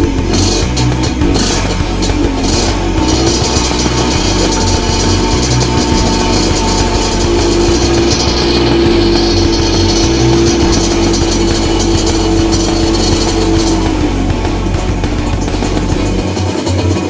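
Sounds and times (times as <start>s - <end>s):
rock music: 0.0s - 17.0s
two-stroke engine running: 0.0s - 17.0s.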